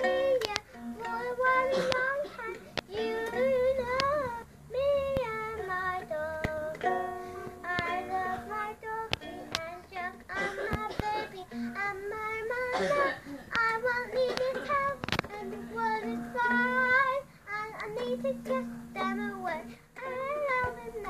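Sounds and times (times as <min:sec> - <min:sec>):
girl singing: 0:00.0 - 0:21.0
ukulele strums: 0:00.0 - 0:21.0.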